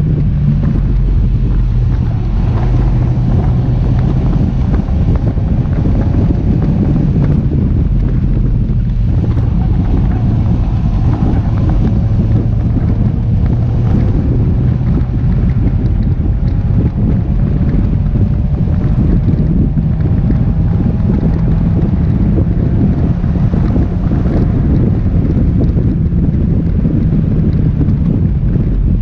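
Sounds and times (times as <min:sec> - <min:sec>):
car engine under load: 0:00.0 - 0:29.0
wind buffeting microphone: 0:00.0 - 0:29.0.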